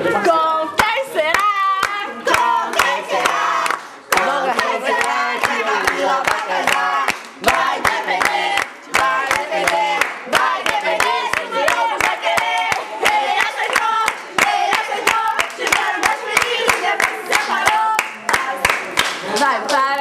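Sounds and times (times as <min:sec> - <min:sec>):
group singing birthday song: 0:00.0 - 0:19.6
people clapping in time: 0:00.8 - 0:20.0.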